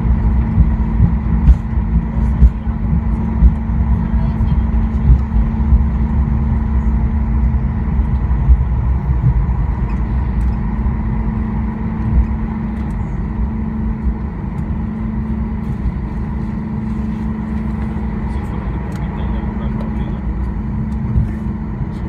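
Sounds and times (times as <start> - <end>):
aircraft cabin rumble: 0.0 - 22.0
steady engine hum: 0.0 - 22.0.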